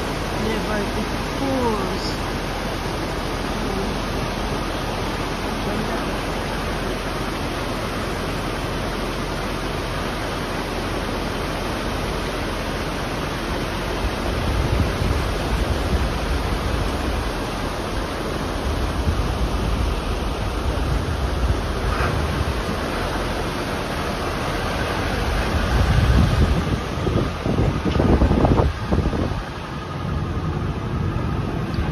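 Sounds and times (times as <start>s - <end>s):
low uneven rumbling: 0.0s - 31.9s
waterfall rushing: 0.0s - 31.9s.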